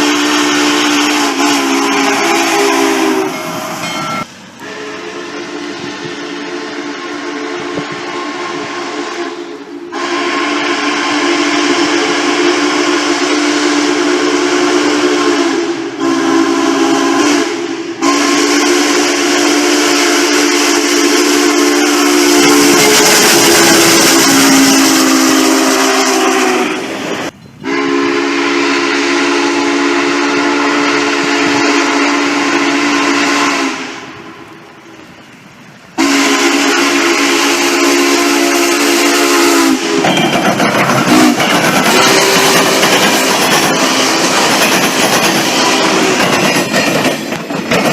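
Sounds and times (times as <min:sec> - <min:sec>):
steam locomotive whistle: 0:00.0 - 0:35.1, 0:36.0 - 0:47.4
steam hissing: 0:00.0 - 0:47.9
train running rumble: 0:00.0 - 0:47.9.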